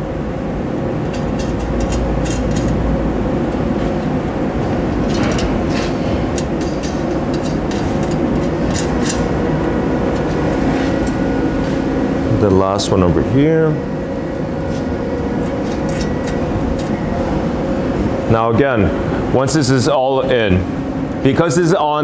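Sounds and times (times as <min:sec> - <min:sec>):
constant hum: 0:00.0 - 0:22.0
steady mechanical drone: 0:00.0 - 0:22.0.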